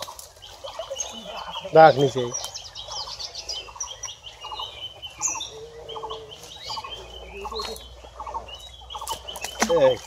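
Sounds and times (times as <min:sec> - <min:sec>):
high bird chirps: 0:00.0 - 0:10.0.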